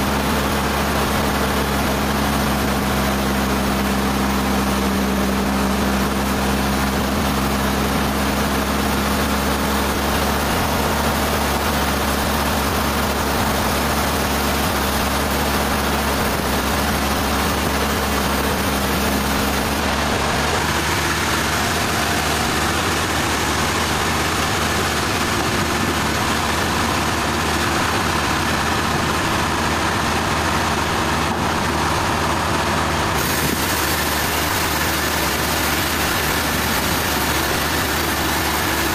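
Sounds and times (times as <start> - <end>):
even rushing noise: 0.0 - 38.9
sawmill engine hum: 0.0 - 38.9.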